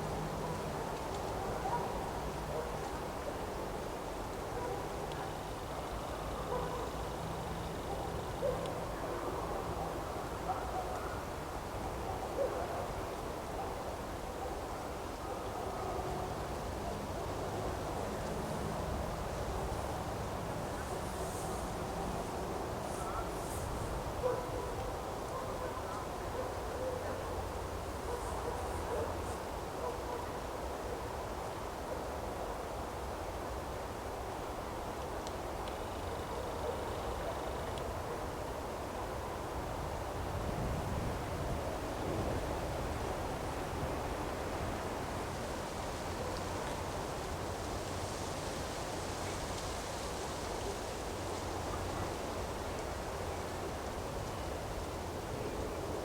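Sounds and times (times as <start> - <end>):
wind through forest trees: 0.0 - 56.0.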